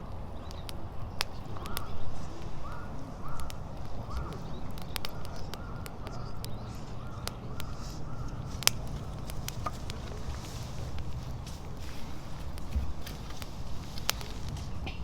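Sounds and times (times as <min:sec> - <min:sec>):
bird calling: 0:00.0 - 0:15.0
firewood crackling and popping: 0:00.0 - 0:15.0.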